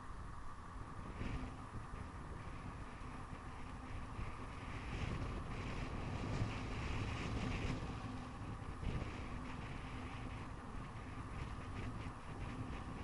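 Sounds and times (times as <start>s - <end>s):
bicycle rolling on paved road: 0.0s - 13.0s
wind noise on microphone: 0.0s - 13.0s.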